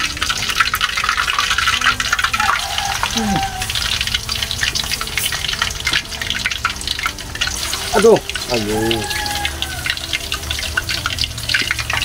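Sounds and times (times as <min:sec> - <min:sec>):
oil sizzling in wok: 0:00.0 - 0:12.0.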